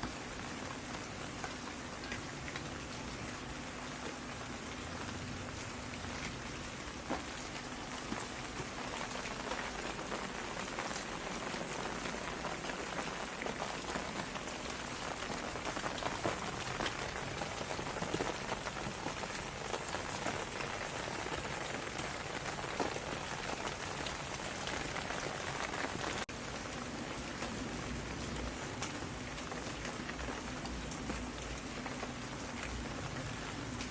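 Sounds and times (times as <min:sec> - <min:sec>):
raindrops ticking: 0:00.0 - 0:33.9
steady rain falling: 0:00.0 - 0:33.9.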